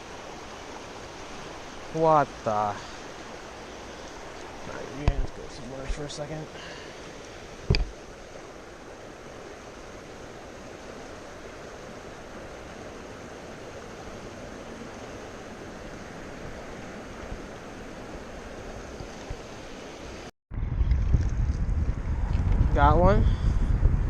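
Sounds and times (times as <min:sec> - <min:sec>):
river water rushing: 0:00.0 - 0:20.3.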